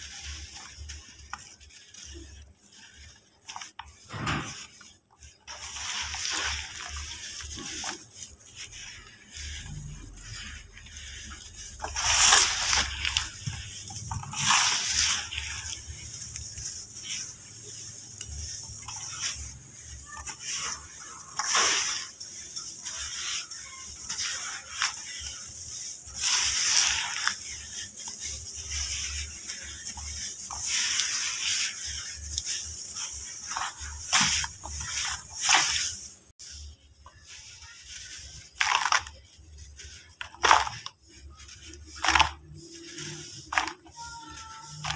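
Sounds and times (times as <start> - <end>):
hands mixing gritty dirt paste: 0.0 - 44.9.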